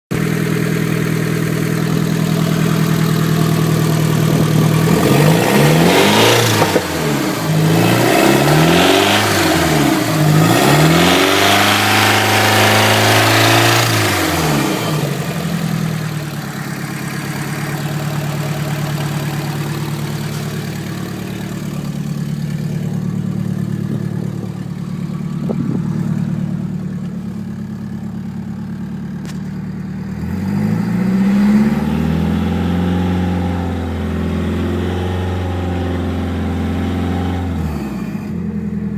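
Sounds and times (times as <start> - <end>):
car engine idling and revving: 0.1 - 38.9.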